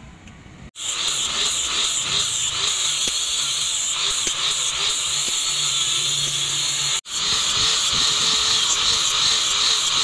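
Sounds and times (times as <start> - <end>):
angle grinder grinding wood: 0.8 - 10.0.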